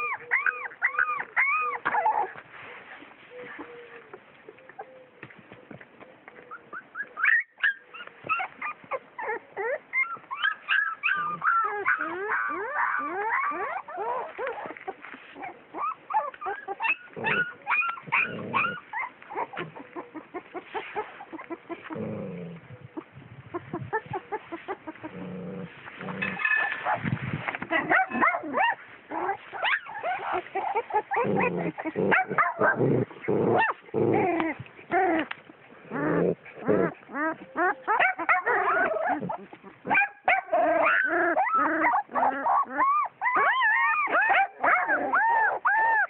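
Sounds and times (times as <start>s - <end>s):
puppies whining and yelping: 0.0s - 46.0s.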